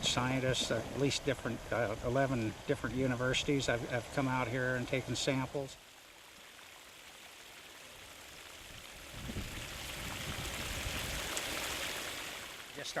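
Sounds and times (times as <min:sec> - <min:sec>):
water jets spraying and splashing: 0:00.0 - 0:13.0.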